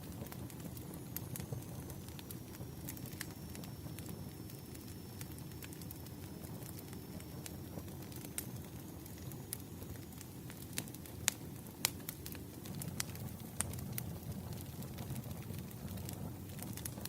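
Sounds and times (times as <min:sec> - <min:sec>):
logs crackling and popping: 0:00.0 - 0:17.0
wood fire rumbling: 0:00.0 - 0:17.0.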